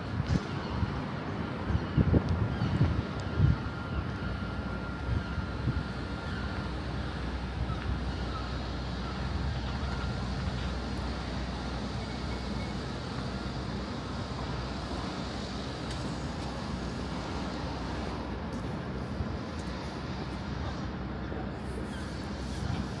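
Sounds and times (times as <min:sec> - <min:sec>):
city background rumble: 0:00.0 - 0:23.0.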